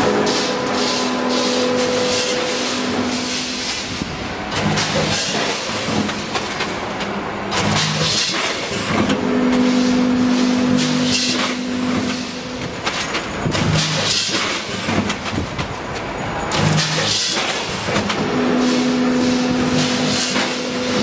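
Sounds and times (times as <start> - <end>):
packing machine humming: 0.0 - 21.0.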